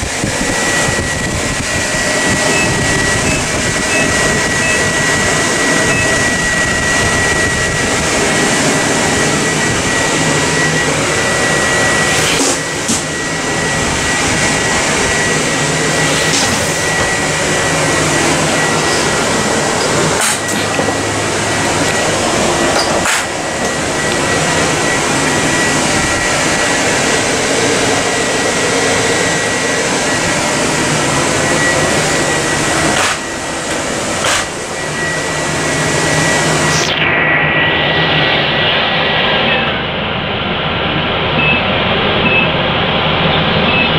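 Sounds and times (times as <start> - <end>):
machinery droning: 0.0 - 43.9
thin high whine: 0.0 - 43.9.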